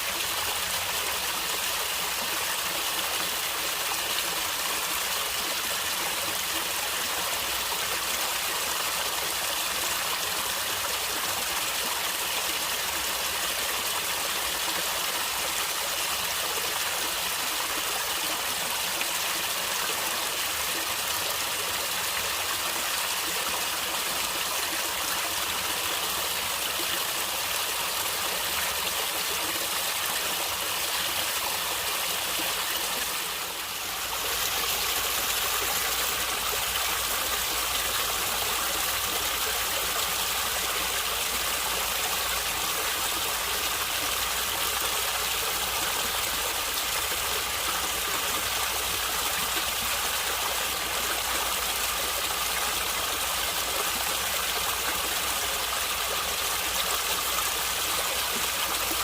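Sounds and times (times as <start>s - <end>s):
stream water gurgling: 0.0s - 59.0s.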